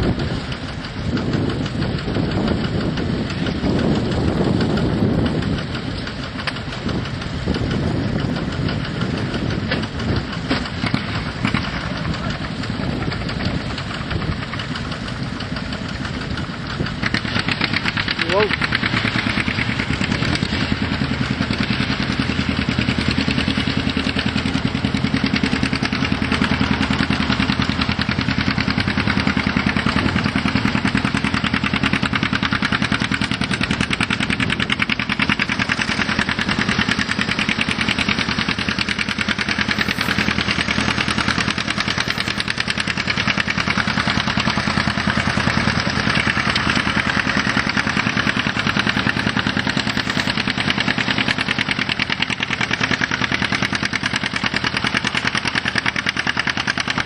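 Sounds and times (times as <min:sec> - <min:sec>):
tractor engine popping: 0:00.0 - 0:57.0.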